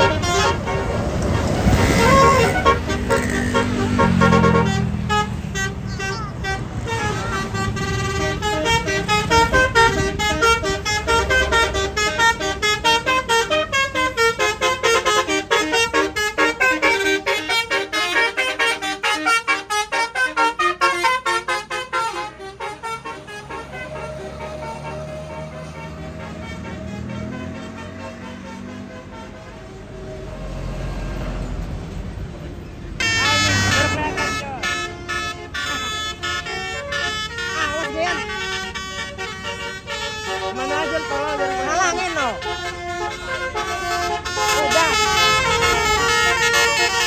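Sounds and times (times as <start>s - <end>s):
multi-tone bus horn melody: 0.0s - 47.0s.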